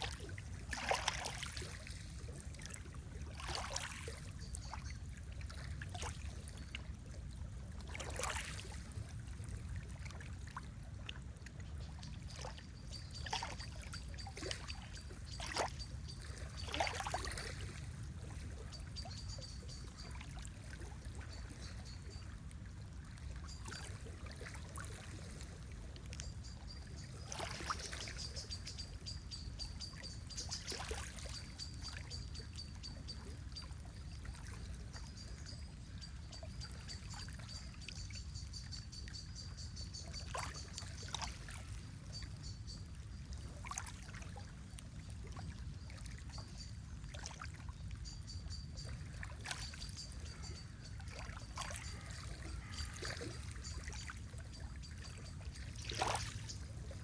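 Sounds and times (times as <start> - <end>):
lake water lapping: 0.0 - 57.0.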